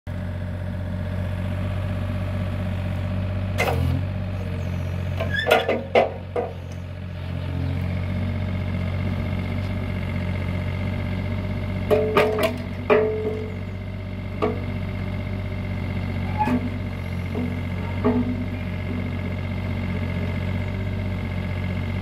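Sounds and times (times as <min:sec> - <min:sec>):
excavator diesel engine running: 0:00.1 - 0:22.0.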